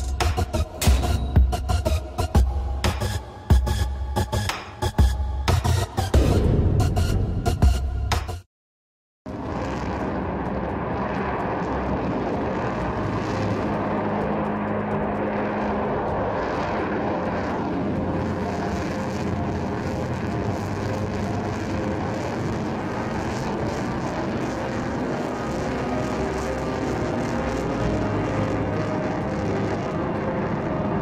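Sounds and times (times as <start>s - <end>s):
jet engines overhead: 0.0s - 7.6s, 9.3s - 31.0s.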